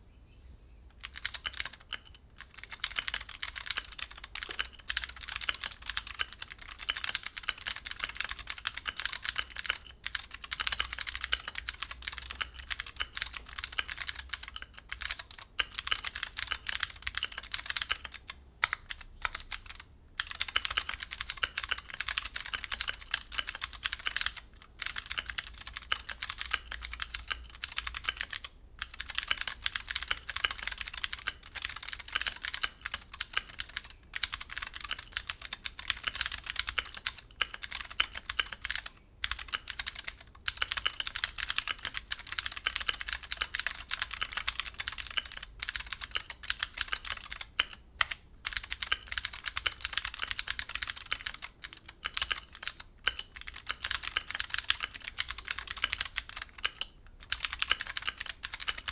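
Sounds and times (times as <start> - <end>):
mechanical keyboard typing: 0.9 - 58.9.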